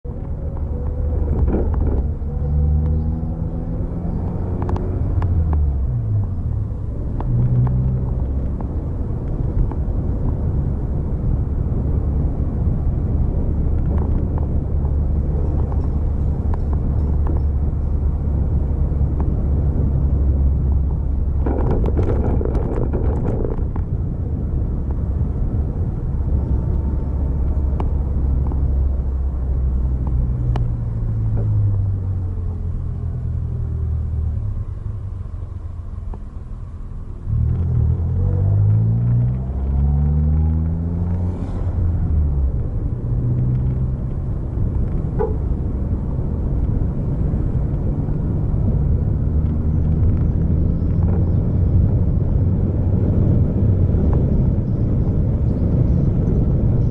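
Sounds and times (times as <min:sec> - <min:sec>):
vehicle engine and road rumble: 0:00.0 - 0:56.9.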